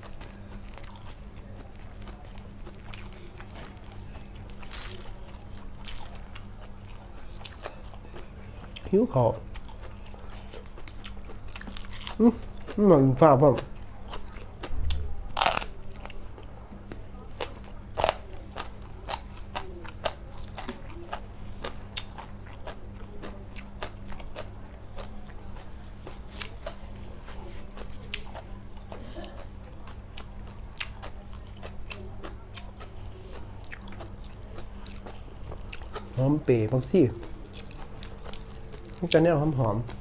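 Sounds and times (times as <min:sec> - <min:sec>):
person chewing and crunching food: 0:00.0 - 0:40.0
steady low hum: 0:00.0 - 0:40.0.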